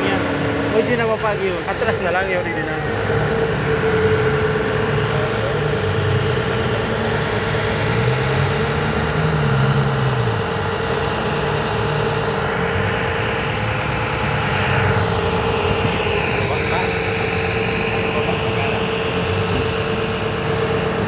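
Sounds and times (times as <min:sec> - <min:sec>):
heavy machine engine running: 0:00.0 - 0:21.0
steady whine: 0:00.0 - 0:21.0.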